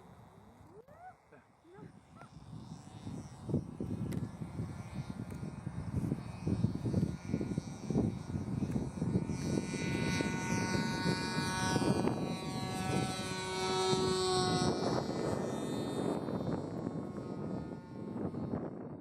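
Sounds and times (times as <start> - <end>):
model plane motor humming: 0.0 - 19.0
wind on microphone: 1.7 - 19.0.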